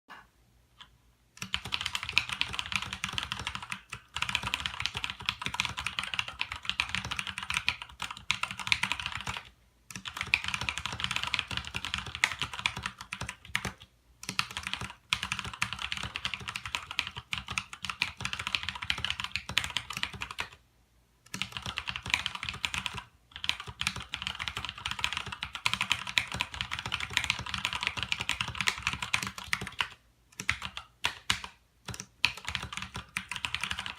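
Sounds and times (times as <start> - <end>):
mechanical keyboard typing: 1.4 - 20.6, 21.3 - 33.9.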